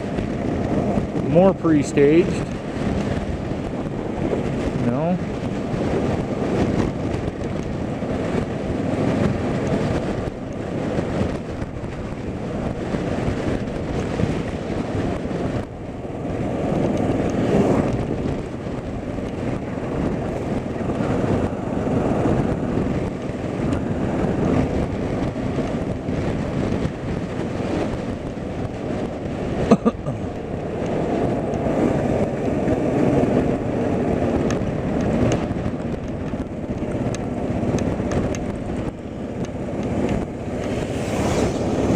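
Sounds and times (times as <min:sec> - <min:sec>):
moving vehicle rumble: 0:00.0 - 0:41.9
wind buffeting microphone: 0:00.0 - 0:41.9.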